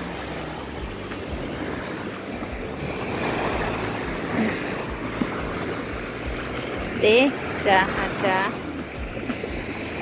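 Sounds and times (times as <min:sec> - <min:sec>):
surf washing onto sand: 0:00.0 - 0:10.0
wind rumbling on microphone: 0:00.0 - 0:10.0.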